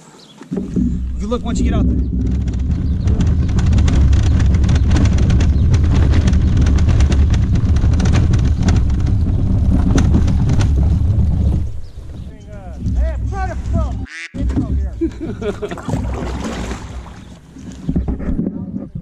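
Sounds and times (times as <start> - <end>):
plastic kayak scraping on concrete: 0.2 - 19.0.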